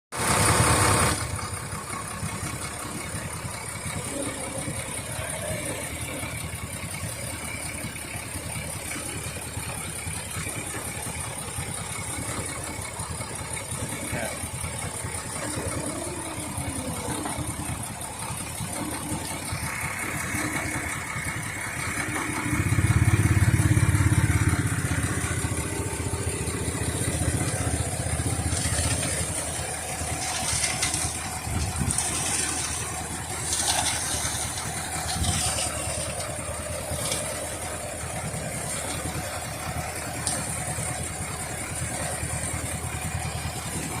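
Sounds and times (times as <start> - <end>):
diesel engine running: 0.1 - 44.0.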